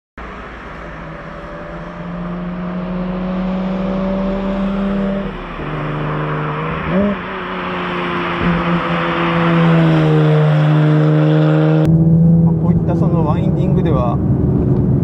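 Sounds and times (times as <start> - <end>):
road noise: 0.2 - 15.0
car engine revving under load: 0.3 - 15.0.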